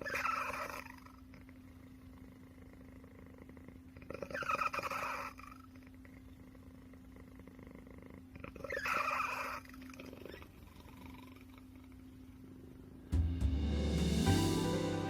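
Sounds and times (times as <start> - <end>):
cat snoring: 0.0 - 12.1.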